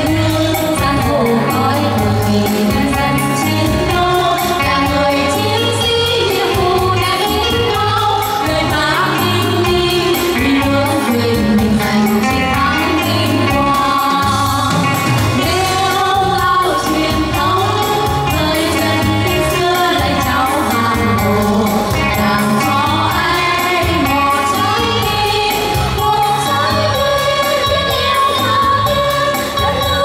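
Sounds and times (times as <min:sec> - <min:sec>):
female vocal trio singing: 0:00.0 - 0:30.0
backing music with bass beat: 0:05.9 - 0:30.0.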